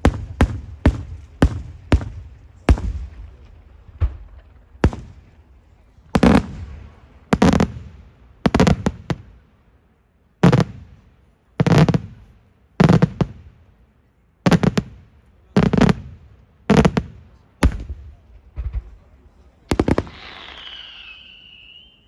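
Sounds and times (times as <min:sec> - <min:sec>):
fireworks bursting with echo: 0:00.0 - 0:09.4, 0:10.4 - 0:13.6, 0:14.5 - 0:22.0.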